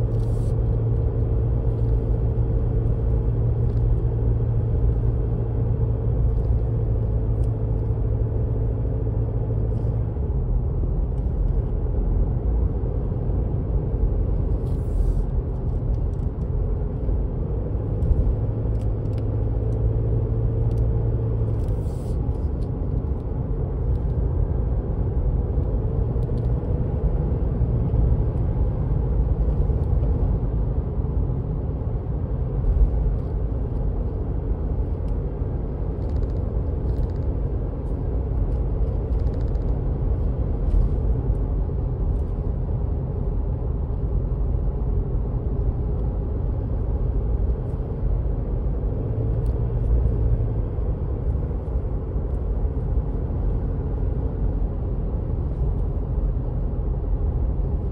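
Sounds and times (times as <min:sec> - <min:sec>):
car engine drone: 0:00.0 - 0:57.9.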